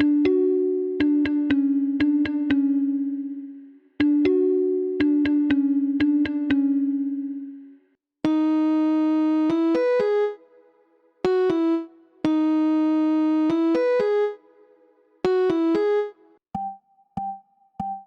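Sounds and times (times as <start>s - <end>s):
bright keyboard-like synth notes: 0.0s - 18.0s.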